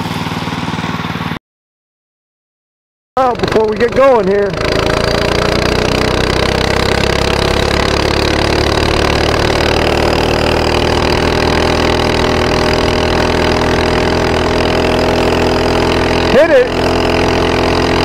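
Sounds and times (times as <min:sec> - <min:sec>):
mini bike engine running: 0:00.0 - 0:01.4, 0:03.2 - 0:18.0.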